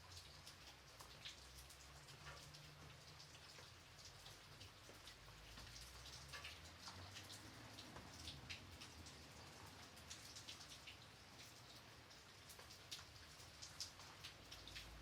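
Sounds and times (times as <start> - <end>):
light rain patter: 0.0 - 15.0
raindrops ticking on a surface: 0.0 - 15.0.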